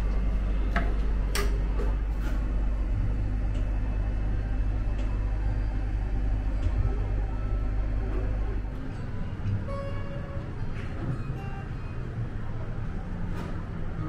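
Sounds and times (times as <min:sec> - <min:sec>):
vending machine humming: 0:00.0 - 0:14.0.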